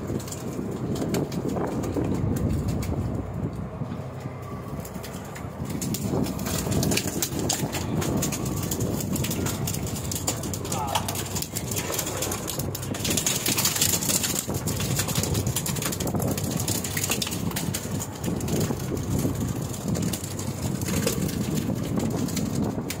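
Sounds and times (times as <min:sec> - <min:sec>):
boat engine running: 0:00.0 - 0:23.0
wind buffeting microphone: 0:00.0 - 0:23.0.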